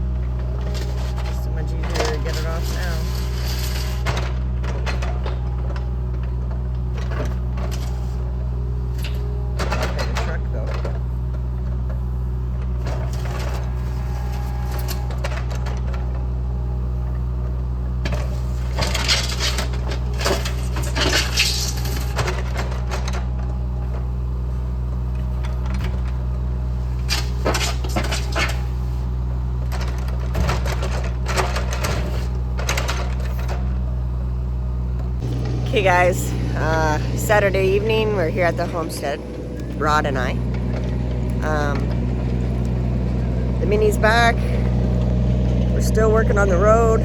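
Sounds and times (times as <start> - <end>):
engine idling: 0.0 - 47.0.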